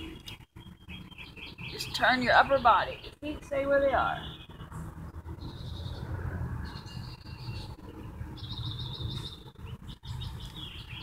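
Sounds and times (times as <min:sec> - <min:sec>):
birds chirping in trills: 0:00.0 - 0:11.0.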